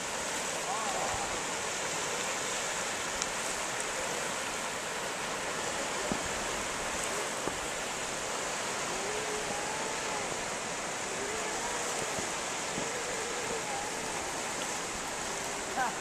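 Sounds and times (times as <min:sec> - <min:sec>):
waves lapping on shore: 0:00.0 - 0:16.0.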